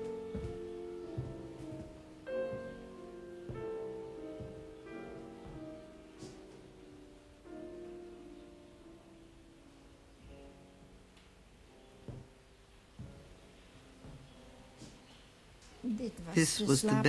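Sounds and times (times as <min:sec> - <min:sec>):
slow quiet piano music: 0:00.0 - 0:17.0.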